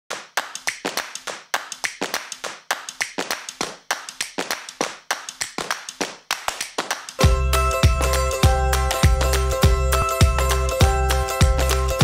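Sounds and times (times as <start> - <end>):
rhythmic hand claps and taps: 0.1 - 12.0.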